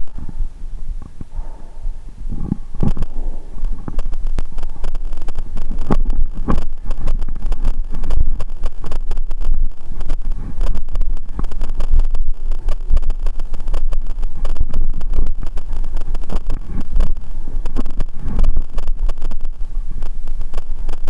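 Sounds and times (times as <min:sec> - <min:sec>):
bicycle tyres rumbling: 0:00.0 - 0:21.0
wind on microphone: 0:00.0 - 0:21.0.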